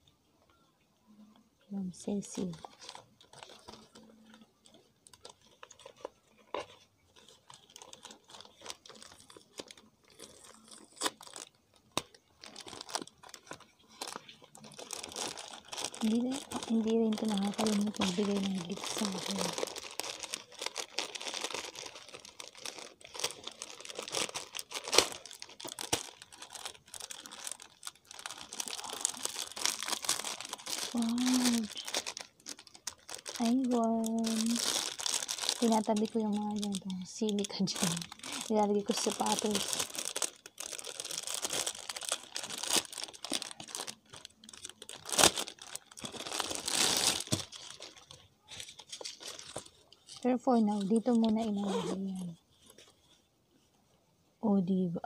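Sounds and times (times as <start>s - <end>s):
gift wrap crinkling: 2.0s - 53.2s.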